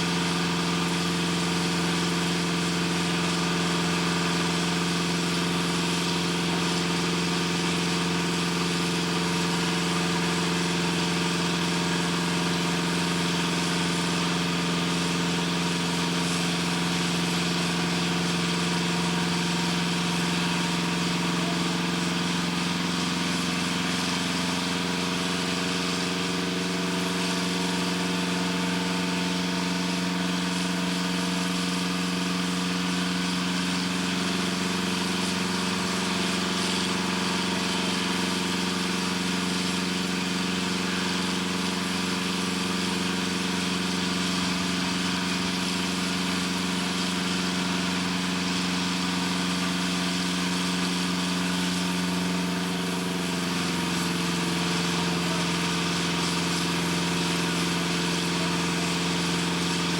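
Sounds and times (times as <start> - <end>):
machinery droning: 0.0 - 48.1, 50.2 - 59.9.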